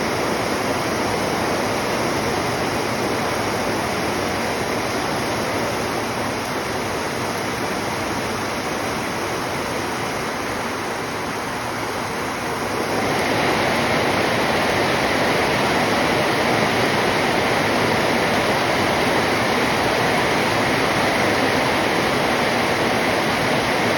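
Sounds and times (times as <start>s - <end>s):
flowing water rushing: 0.0s - 23.9s.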